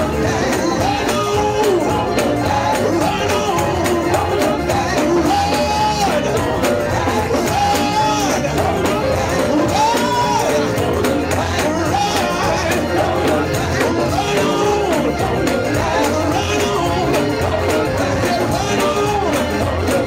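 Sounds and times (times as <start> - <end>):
gospel band with steady beat: 0.0 - 20.0.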